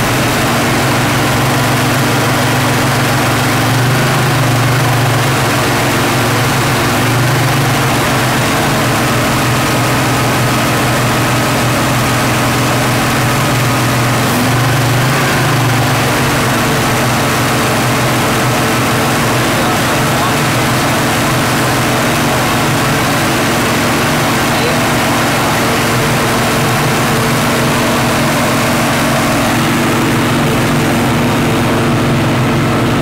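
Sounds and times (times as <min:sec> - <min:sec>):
car engine fast idle revving: 0:00.0 - 0:33.0.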